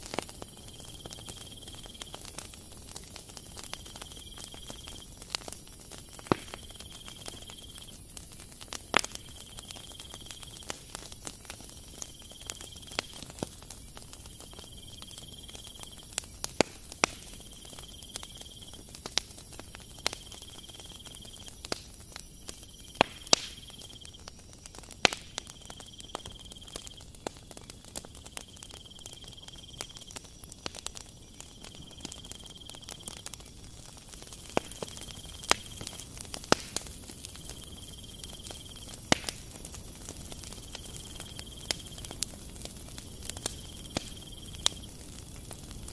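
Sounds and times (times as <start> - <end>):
patter of falling grains: 0.0 - 45.9.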